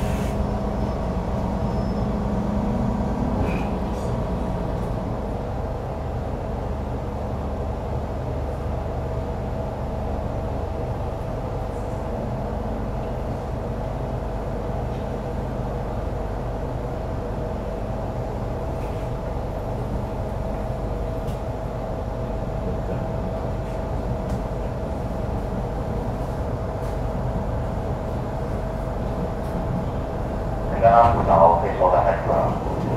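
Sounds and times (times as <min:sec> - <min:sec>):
train car idling hum: 0:00.0 - 0:32.9.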